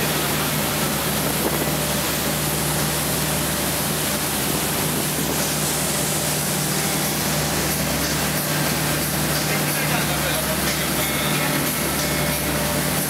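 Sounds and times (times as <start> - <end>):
outboard motor humming: 0.0 - 13.0
rushing wake and spray: 0.0 - 13.0.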